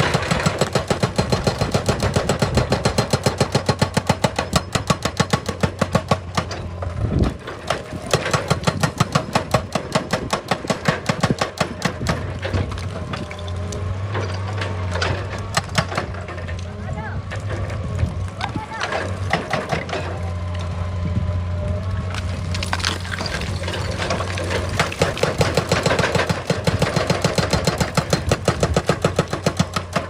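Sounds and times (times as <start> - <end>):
hydraulic breaker hammering stone: 0.0 - 13.5, 14.2 - 16.6, 18.5 - 20.2, 22.2 - 30.0
diesel engine hum: 0.0 - 30.0.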